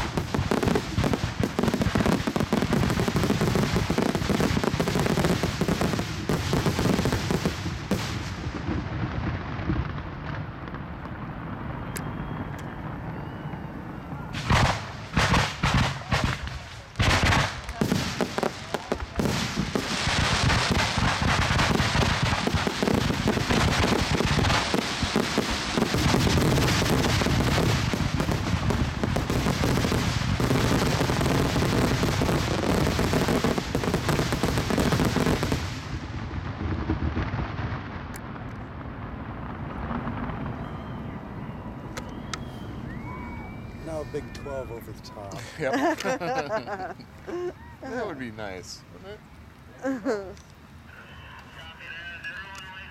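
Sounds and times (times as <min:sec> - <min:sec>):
fireworks bangs and crackle: 0:00.0 - 0:48.8.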